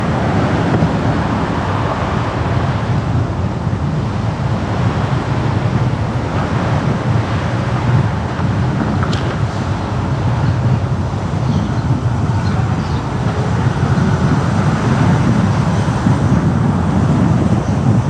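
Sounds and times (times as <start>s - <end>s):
car road noise: 0.0s - 18.0s.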